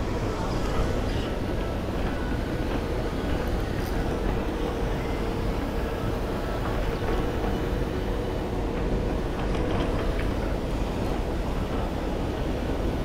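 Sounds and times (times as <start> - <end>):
constant low rumble: 0.0 - 13.0.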